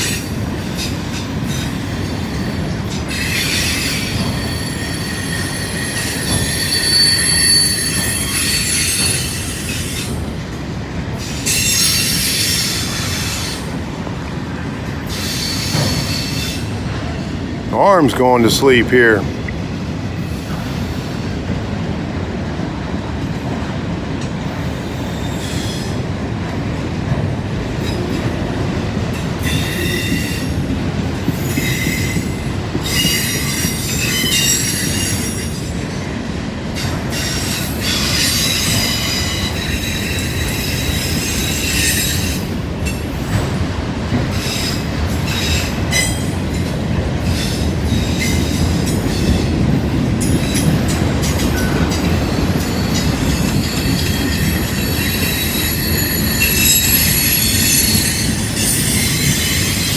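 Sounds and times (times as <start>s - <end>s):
steel wheels squealing on rail: 0.0s - 17.4s, 20.1s - 21.4s, 23.6s - 59.9s
freight train cars rumbling: 0.0s - 59.9s.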